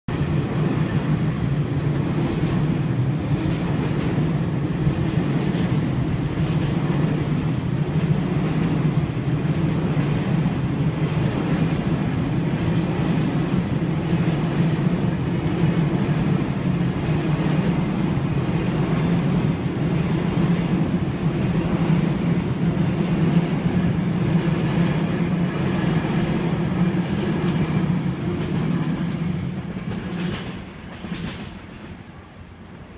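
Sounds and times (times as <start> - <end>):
freight train rumbling past: 0.1 - 32.9.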